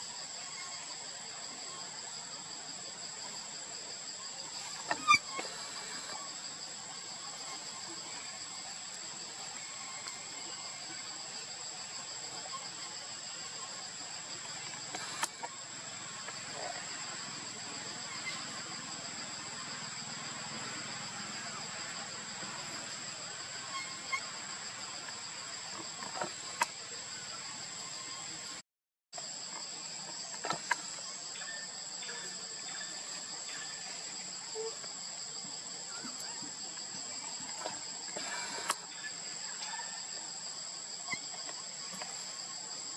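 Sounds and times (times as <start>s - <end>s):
high-pitched insect chorus: 0.0s - 28.6s, 29.2s - 42.9s.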